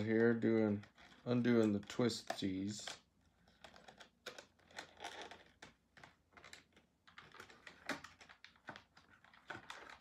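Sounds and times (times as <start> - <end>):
plastic packaging clicks and rustles: 0.0 - 10.0.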